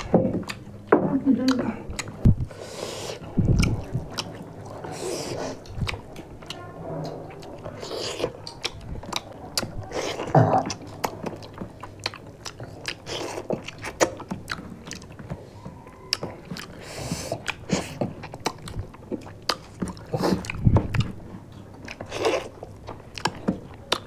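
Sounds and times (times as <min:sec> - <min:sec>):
people chewing chicken: 0:00.0 - 0:24.0.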